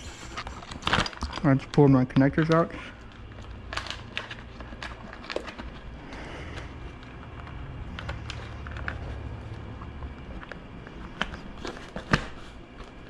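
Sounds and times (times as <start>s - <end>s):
steady low rumble: 1.5s - 13.0s.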